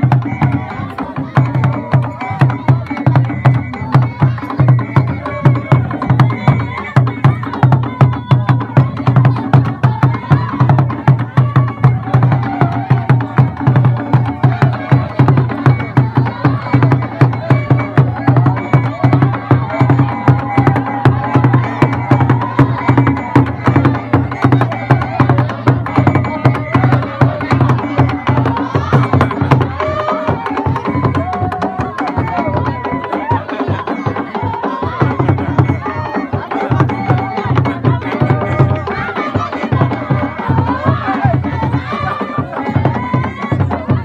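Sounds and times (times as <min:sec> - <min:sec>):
hand drums playing dance beat: 0:00.0 - 0:44.0
voices: 0:00.0 - 0:44.0.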